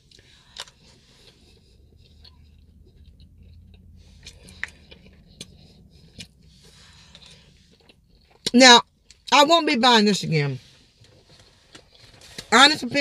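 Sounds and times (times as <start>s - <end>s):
person chewing food: 0.0s - 9.3s, 10.8s - 12.5s.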